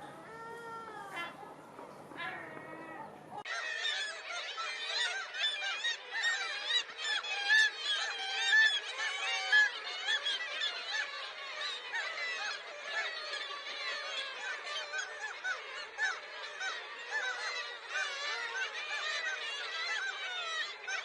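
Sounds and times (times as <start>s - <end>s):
flock of gulls calling: 0.0s - 21.0s.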